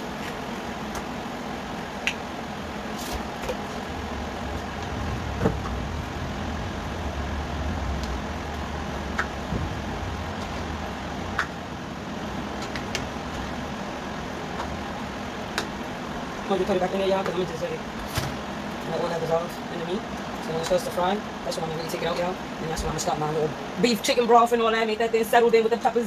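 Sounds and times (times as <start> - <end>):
steady hiss and low hum: 0.0 - 26.0.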